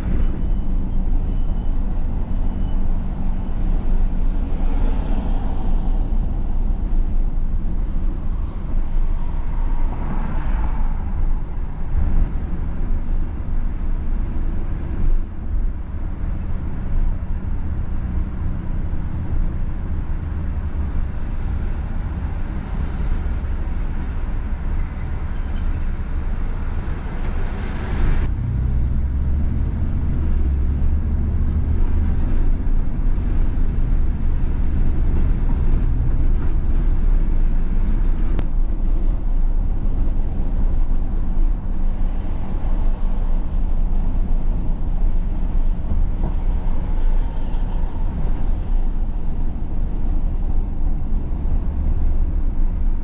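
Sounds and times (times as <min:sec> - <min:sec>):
vehicle road and engine rumble: 0:00.0 - 0:53.0.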